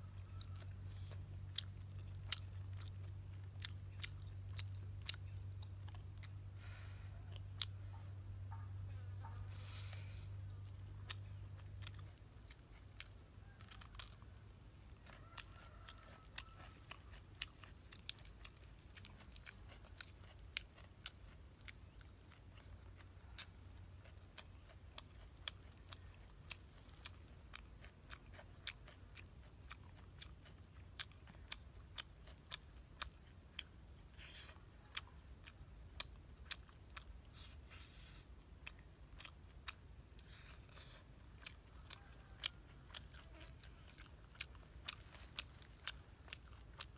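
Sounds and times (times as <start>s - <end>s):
faint low hum: 0.0s - 46.9s
person chewing: 0.0s - 46.9s.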